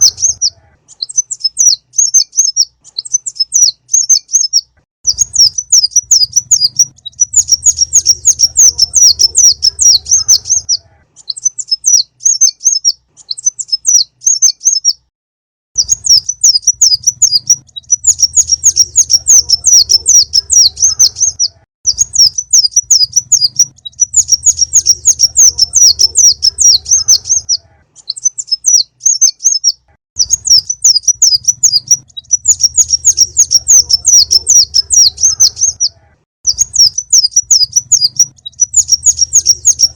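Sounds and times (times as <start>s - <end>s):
bird chirping trills: 0.0s - 15.1s, 15.8s - 39.9s.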